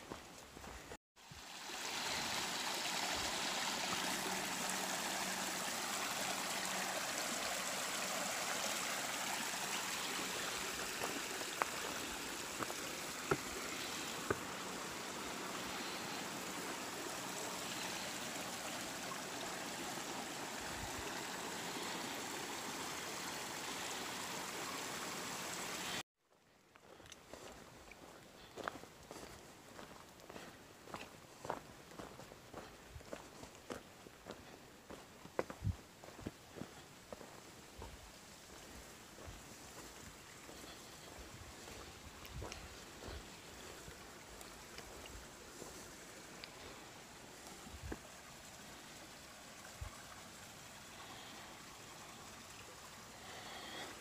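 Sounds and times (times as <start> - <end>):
creek rushing: 0.0 - 26.0, 27.4 - 54.0.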